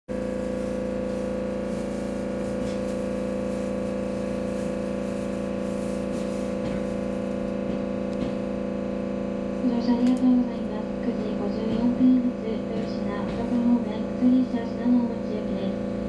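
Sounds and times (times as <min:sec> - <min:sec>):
train equipment hum: 0:00.1 - 0:08.7, 0:09.3 - 0:15.7.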